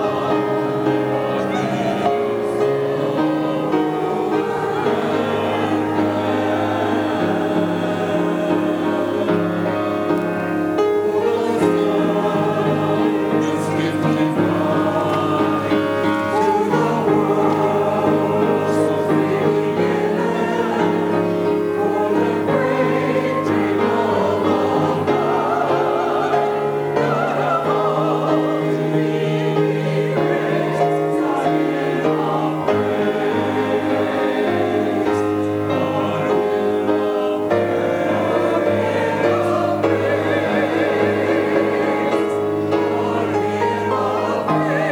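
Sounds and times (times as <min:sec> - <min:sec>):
choir singing with accompaniment: 0:00.0 - 0:44.9.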